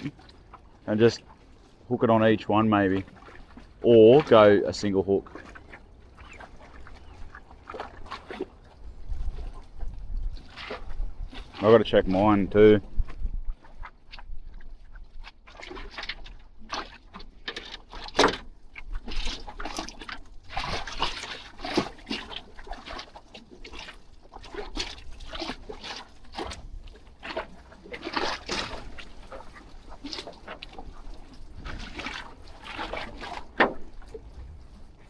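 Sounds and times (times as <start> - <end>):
water lapping and splashing: 0.0 - 35.0.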